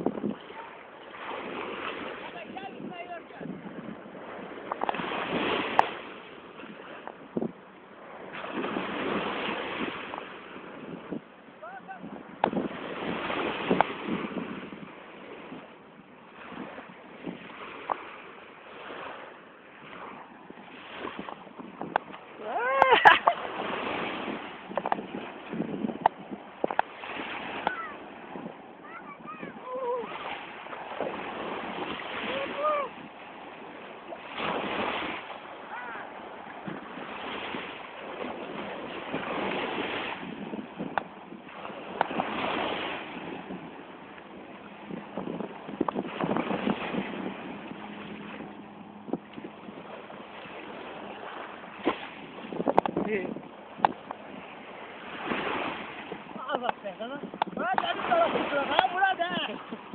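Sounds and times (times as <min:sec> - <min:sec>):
sea wash: 0:00.0 - 0:59.9
wind buffeting microphone: 0:00.0 - 0:59.9.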